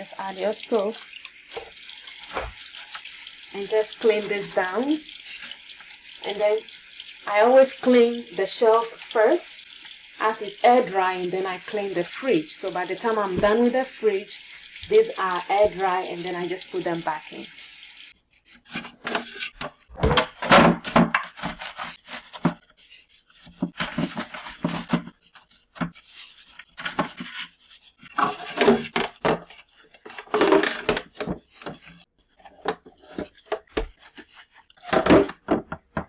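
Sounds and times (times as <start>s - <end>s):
sponge scrubbing shelf: 0.2s - 17.3s, 21.2s - 36.0s.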